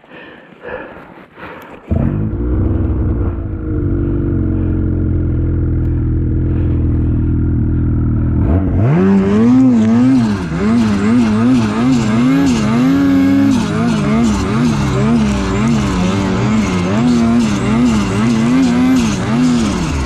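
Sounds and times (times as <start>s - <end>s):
snowmobile engine idling and revving: 1.9s - 20.0s.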